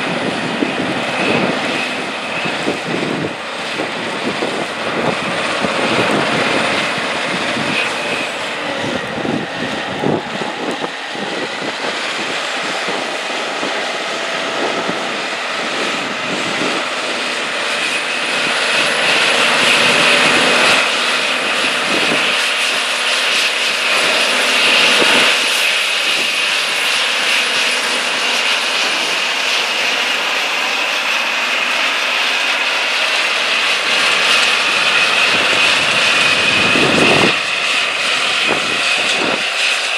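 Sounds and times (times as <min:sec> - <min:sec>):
plow pulled through soil: 0:00.0 - 0:39.9.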